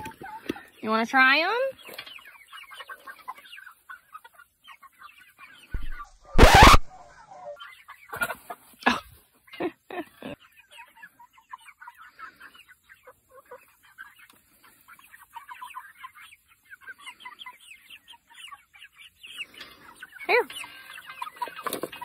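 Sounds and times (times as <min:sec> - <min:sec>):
hens clucking softly: 0:00.0 - 0:01.0, 0:01.6 - 0:06.1, 0:07.4 - 0:22.0.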